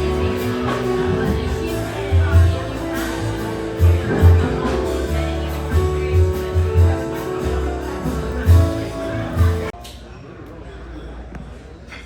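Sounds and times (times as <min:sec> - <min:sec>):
guitar: 0:00.0 - 0:09.7.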